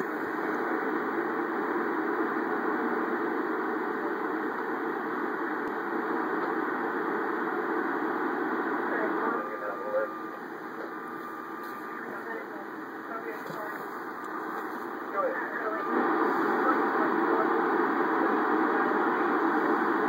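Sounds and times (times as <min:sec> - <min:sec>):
muffled radio static hiss: 0:00.0 - 0:20.0.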